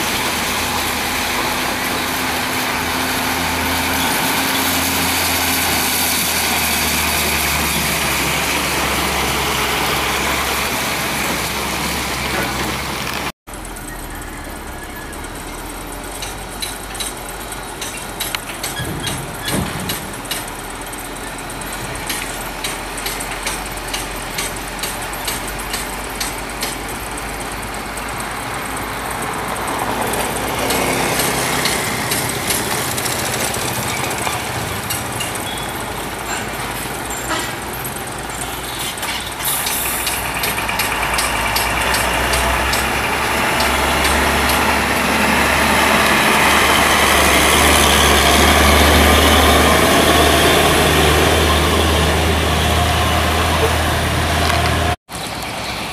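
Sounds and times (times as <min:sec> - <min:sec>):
diesel trucks moving slowly: 0:00.0 - 0:55.9
truck engine approaching: 0:00.0 - 0:55.9.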